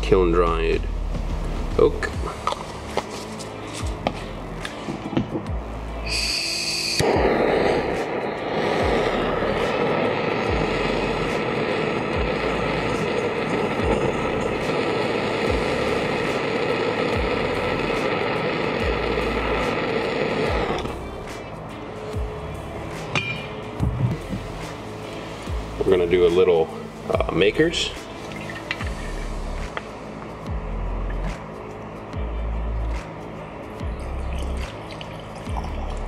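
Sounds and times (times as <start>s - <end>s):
torch flame hissing: 1.7s - 31.5s
torch lighting hiss: 1.9s - 31.9s.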